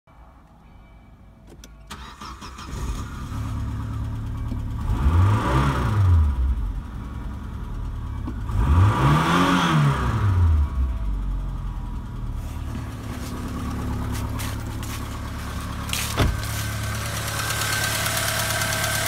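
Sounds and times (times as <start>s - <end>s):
car engine idling and revving: 1.6s - 19.0s.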